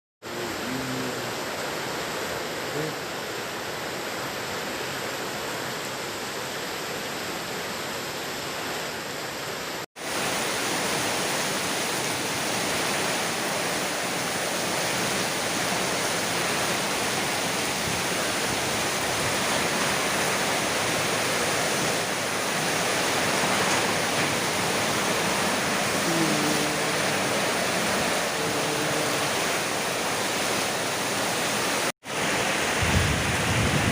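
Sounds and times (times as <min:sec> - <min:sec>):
heavy rain pouring: 0:00.2 - 0:07.6, 0:08.5 - 0:33.9.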